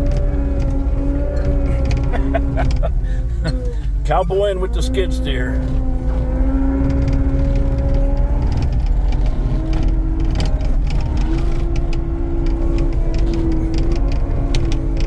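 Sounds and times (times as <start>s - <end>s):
skid steer engine droning: 0.0s - 15.0s.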